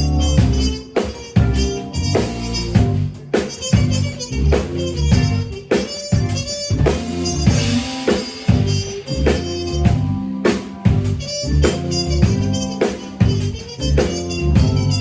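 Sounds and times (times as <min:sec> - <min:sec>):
bass: 0:00.0 - 0:15.0
drum beat: 0:00.0 - 0:15.0
muted trumpet blues melody: 0:00.0 - 0:15.0.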